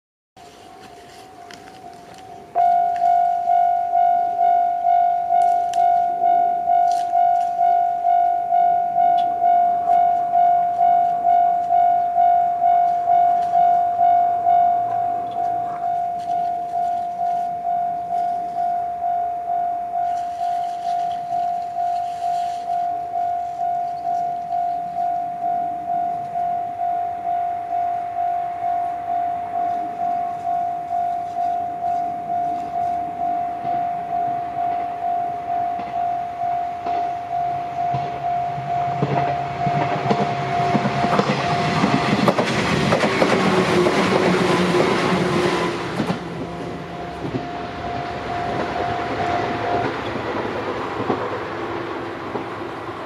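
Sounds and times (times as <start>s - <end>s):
level-crossing alarm ringing: 0.4s - 53.0s.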